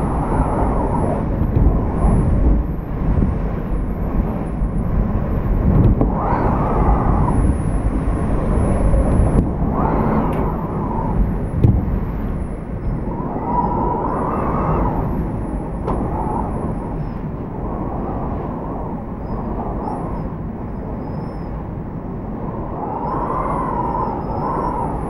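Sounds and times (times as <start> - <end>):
wind howling: 0.0 - 25.0
wind-driven rain: 0.0 - 25.0.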